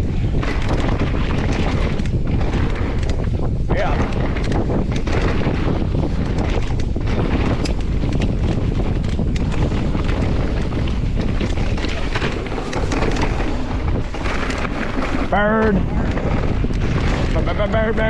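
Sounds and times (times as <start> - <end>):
bike clicks and rattles: 0.0 - 18.0
bike rumble on dirt trail: 0.0 - 18.0
wind on microphone: 0.0 - 18.0.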